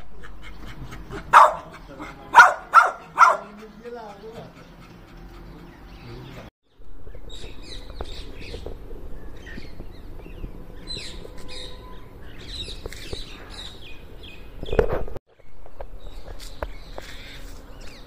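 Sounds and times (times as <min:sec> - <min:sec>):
flock of birds chirping: 0:00.1 - 0:18.0.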